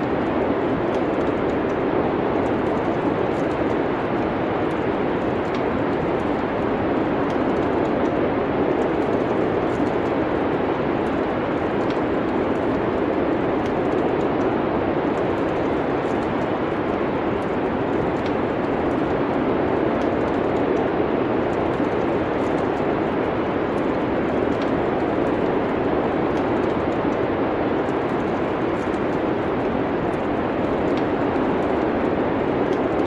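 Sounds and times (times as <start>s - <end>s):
rushing wind: 0.0s - 33.0s
wood fire crackling: 0.0s - 33.0s.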